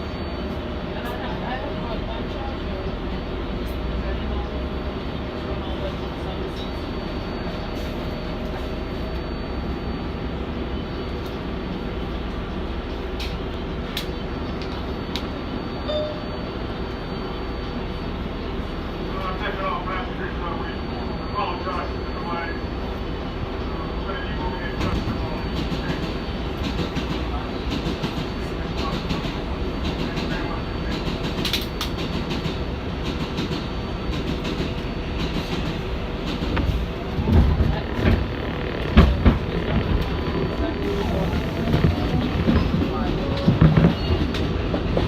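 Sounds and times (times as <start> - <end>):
subway train wheels and motors rumbling: 0.0 - 45.0.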